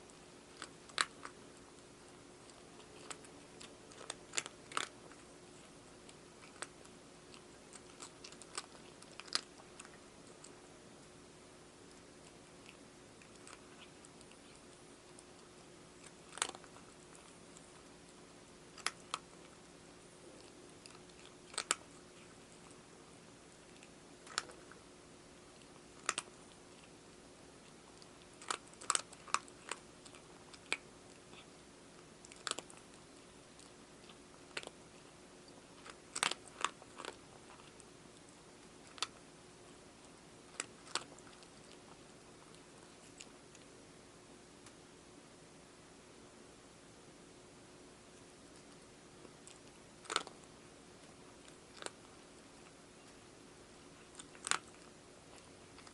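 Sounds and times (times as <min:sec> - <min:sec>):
cat crunching dry food: 0:00.0 - 0:43.7, 0:48.5 - 0:55.9.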